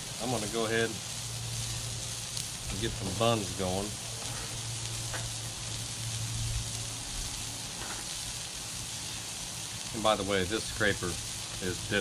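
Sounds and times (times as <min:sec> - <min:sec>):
burger patties sizzling on griddle: 0:00.0 - 0:12.0
low steady hum: 0:00.0 - 0:12.0.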